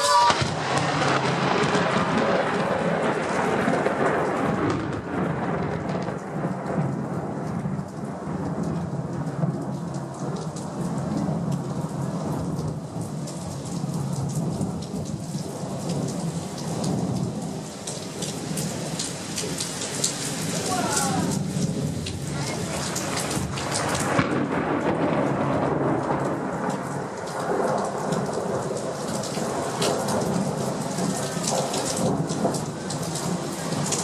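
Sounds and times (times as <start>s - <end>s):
heavy rain pouring: 0.0s - 34.0s
thunder rumbling: 0.0s - 34.0s.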